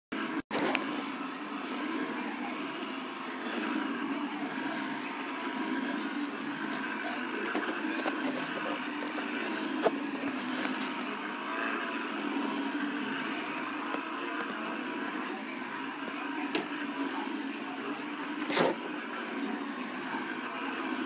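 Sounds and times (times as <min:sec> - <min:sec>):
vacuum cleaner running: 0:00.2 - 0:21.0.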